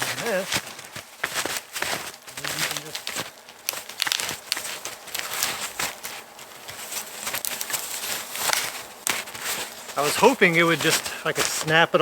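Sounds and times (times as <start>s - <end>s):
snowshoes crunching in snow: 0.0s - 12.0s.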